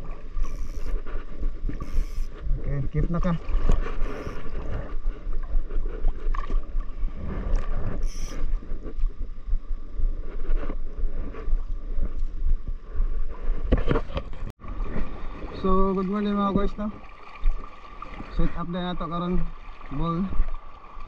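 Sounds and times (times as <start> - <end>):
water sloshing and lapping: 0.0 - 9.3, 13.4 - 21.0
wind rumbling on microphone: 0.0 - 21.0.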